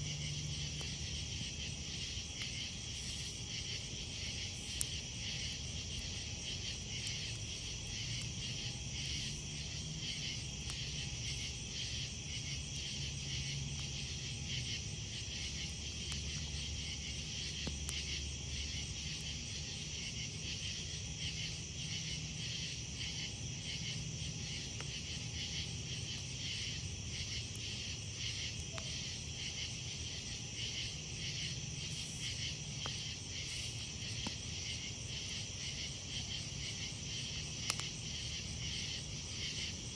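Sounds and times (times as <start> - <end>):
campfire crackling: 0.0 - 39.9
night insects chirping: 0.0 - 39.9.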